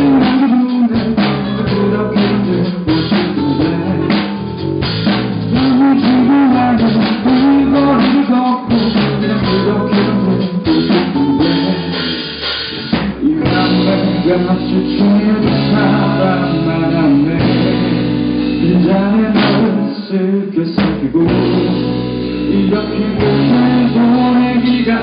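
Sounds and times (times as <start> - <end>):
drum kit: 0.0 - 25.0
rock band playing live: 0.0 - 25.0.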